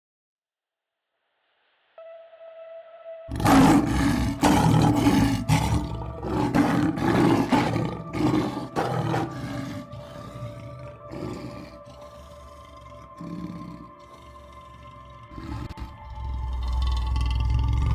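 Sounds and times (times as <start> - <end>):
background music with held tones: 2.0 - 17.9
large animal roaring: 3.3 - 17.9.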